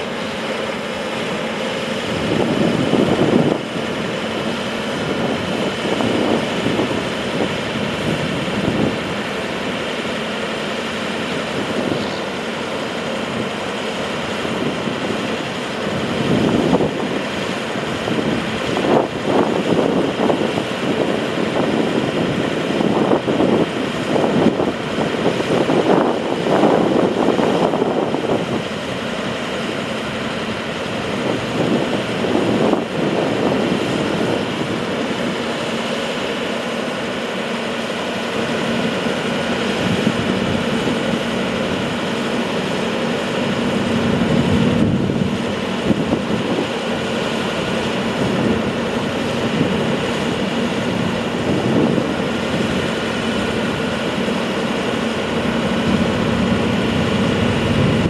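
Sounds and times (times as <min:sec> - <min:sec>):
diesel truck engine running: 0:00.0 - 0:58.0
hydraulic crane working: 0:00.0 - 0:58.0
wind gusts on microphone: 0:01.9 - 0:09.7, 0:11.0 - 0:58.0.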